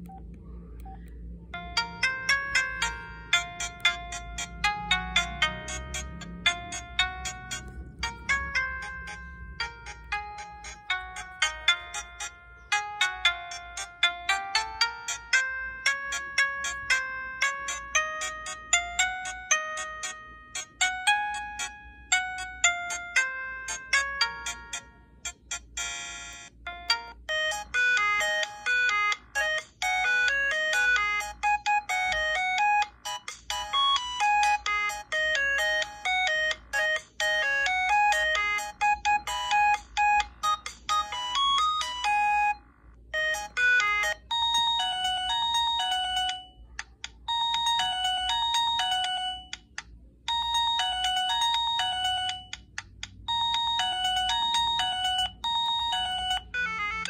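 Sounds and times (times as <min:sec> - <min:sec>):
ringtone melodies from phone speaker: 0:01.6 - 0:57.0.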